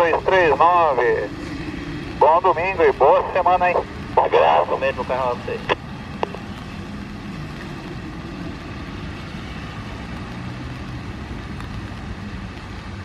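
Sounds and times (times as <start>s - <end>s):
low rumble: 0.0s - 12.3s.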